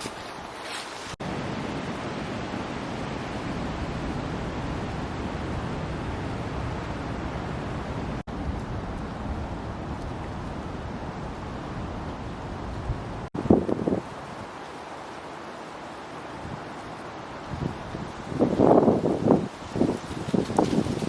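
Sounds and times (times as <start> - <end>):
wind blowing over microphone: 0.0 - 14.6, 16.2 - 21.0.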